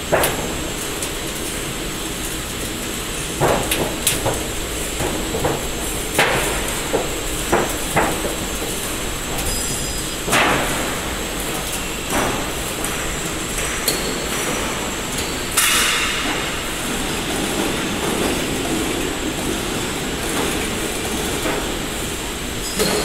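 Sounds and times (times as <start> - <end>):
roll forming machine running: 0.0 - 23.0.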